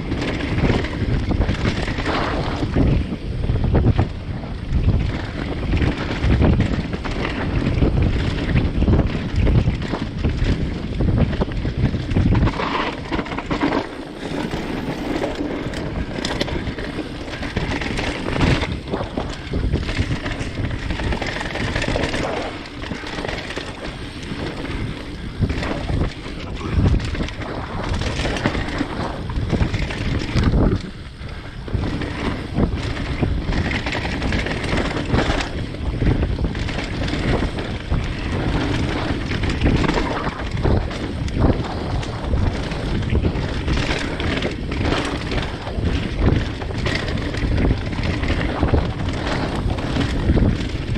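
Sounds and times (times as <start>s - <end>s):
bike rattling over bumps: 0.0s - 50.9s
wind buffeting microphone: 0.0s - 50.9s
tyres rolling over dirt: 5.2s - 50.9s.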